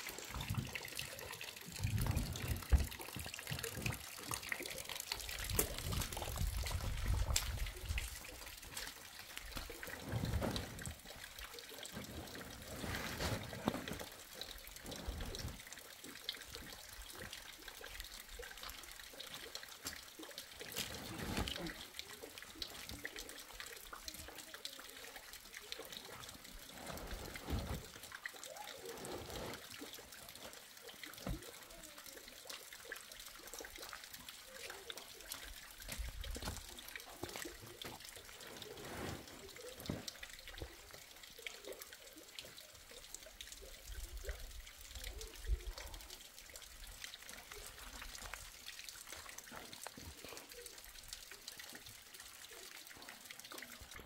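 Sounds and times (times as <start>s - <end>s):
water trickling and dripping: 0.0s - 54.0s.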